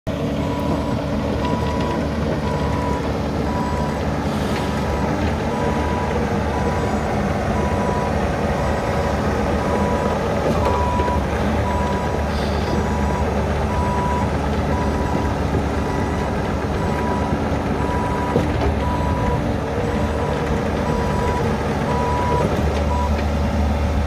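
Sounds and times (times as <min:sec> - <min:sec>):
diesel engine running: 0:00.1 - 0:24.0
excavator tracks moving: 0:00.1 - 0:24.0
travel alarm beeping: 0:00.4 - 0:04.0, 0:05.5 - 0:15.3, 0:15.9 - 0:23.1.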